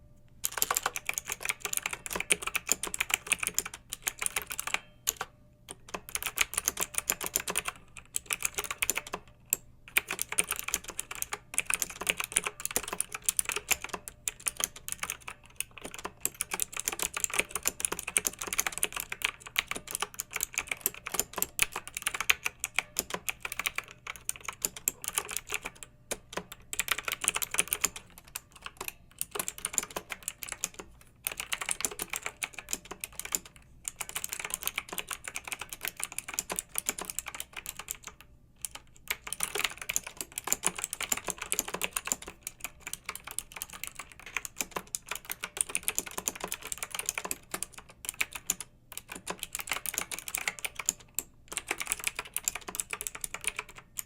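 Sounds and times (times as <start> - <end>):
mechanical keyboard typing: 0.4 - 54.0.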